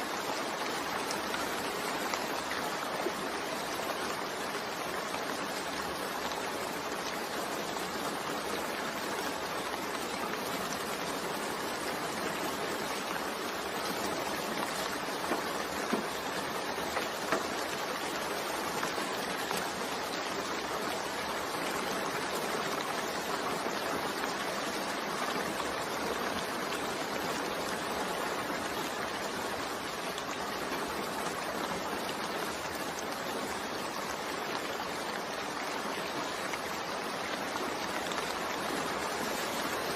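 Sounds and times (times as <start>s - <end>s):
gentle rain hissing: 0.0s - 39.9s.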